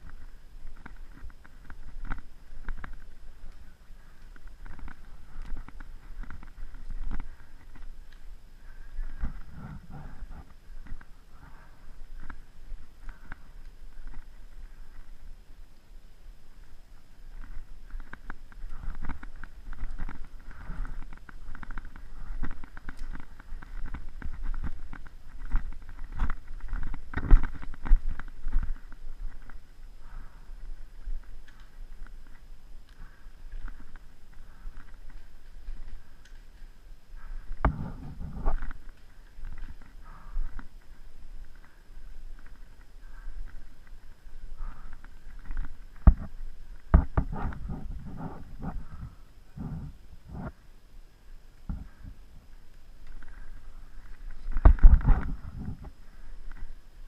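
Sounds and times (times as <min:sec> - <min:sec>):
low microphone rumble: 0:00.0 - 0:50.8
rustling in woodland: 0:00.0 - 0:57.0.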